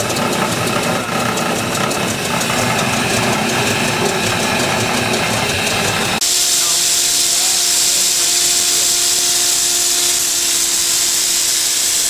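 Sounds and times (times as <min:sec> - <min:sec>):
truck engine idling roughly: 0:00.0 - 0:12.0.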